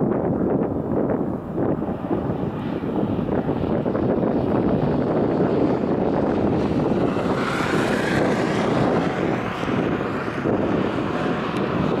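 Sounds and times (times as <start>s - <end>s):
jet airliner climbing: 0.0s - 12.0s.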